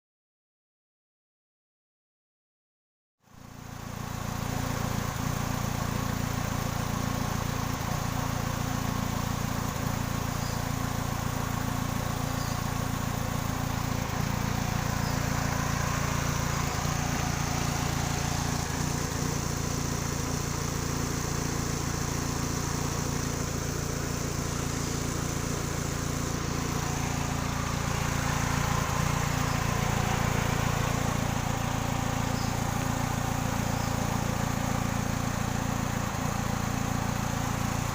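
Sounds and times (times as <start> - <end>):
car engine idling with misfire: 3.3 - 37.9.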